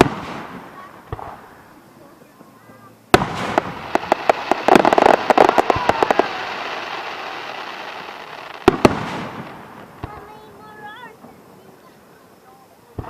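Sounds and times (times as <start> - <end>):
fireworks crackling pops: 0.0 - 13.0
loud fireworks bangs: 0.0 - 13.0.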